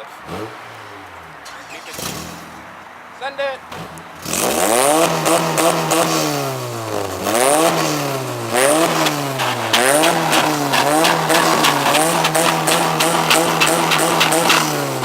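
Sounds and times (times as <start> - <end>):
car engine revving hard: 0.0 - 2.8, 3.6 - 15.0.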